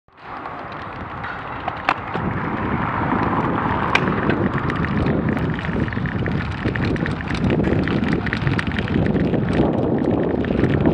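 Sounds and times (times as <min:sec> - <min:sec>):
bicycle tyres rumbling on cobblestones: 0:00.1 - 0:10.9
wind on microphone: 0:00.2 - 0:10.9.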